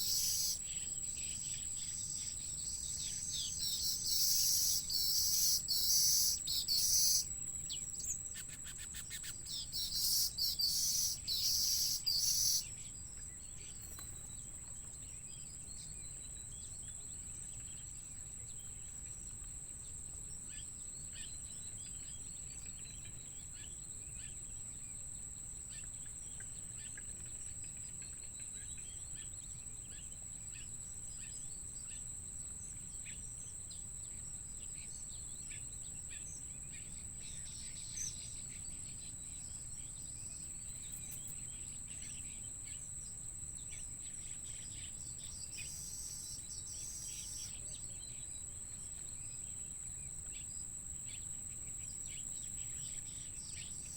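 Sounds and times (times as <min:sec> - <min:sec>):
cricket-like insect trill: 0:00.0 - 0:53.9
faint bird chirps: 0:00.0 - 0:53.9.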